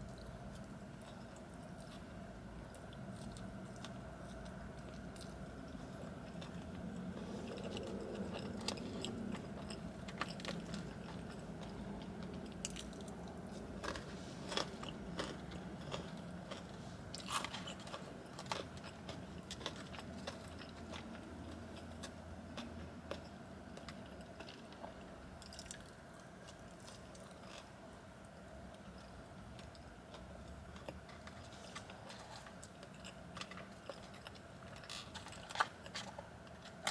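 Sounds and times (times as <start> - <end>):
biting and chewing fries: 0.0 - 36.9
steady low hum: 0.0 - 36.9.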